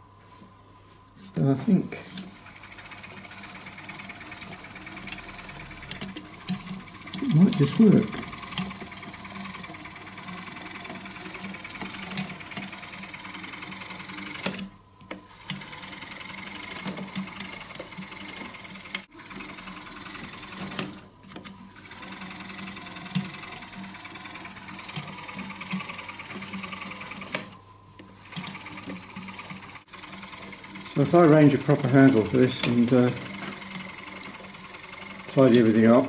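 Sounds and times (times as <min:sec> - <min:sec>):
film projector clattering: 0:02.0 - 0:27.6, 0:28.2 - 0:36.0.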